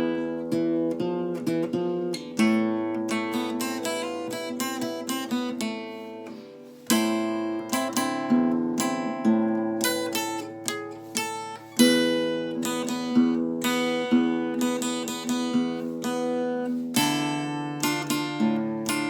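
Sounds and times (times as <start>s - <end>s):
solo acoustic guitar melody: 0.0s - 19.0s.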